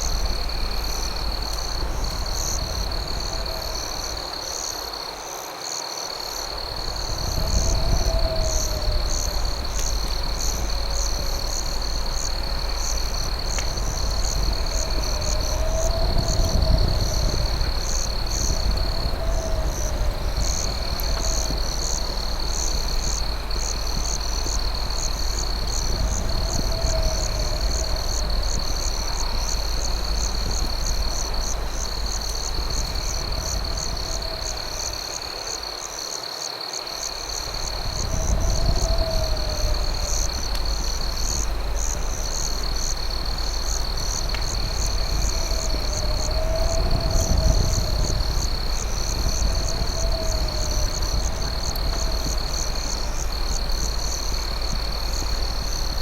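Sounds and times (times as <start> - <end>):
low rumble: 0.0 - 4.5, 6.7 - 35.1, 37.4 - 56.0
crickets trilling: 0.0 - 56.0.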